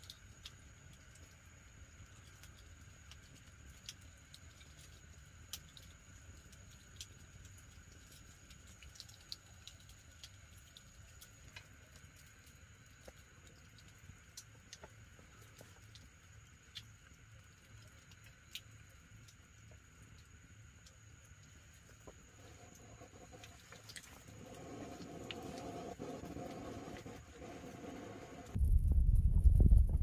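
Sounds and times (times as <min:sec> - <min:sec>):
wood fire crackling: 0:00.0 - 0:28.6.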